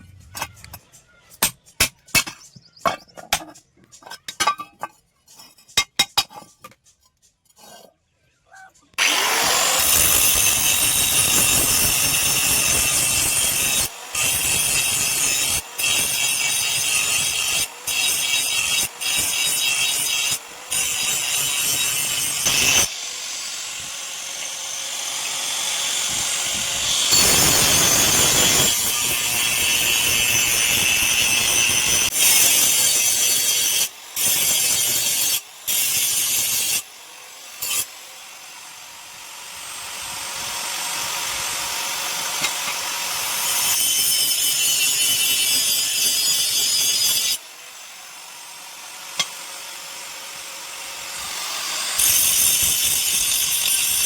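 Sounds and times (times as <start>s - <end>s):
power tool cutting steel: 8.9s - 54.0s.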